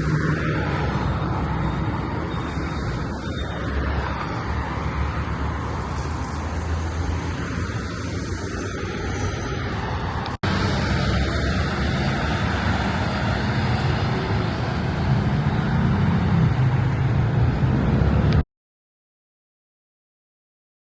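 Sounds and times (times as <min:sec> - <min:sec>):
vehicle passing rumble: 0:00.0 - 0:18.4
city road traffic: 0:00.0 - 0:18.5.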